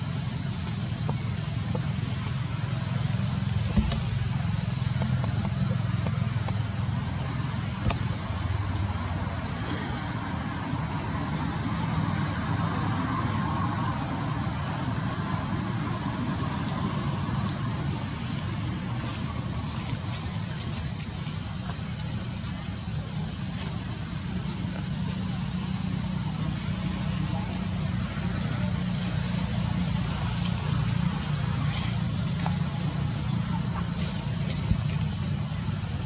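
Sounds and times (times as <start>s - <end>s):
distant road traffic rumble: 0.0s - 36.0s.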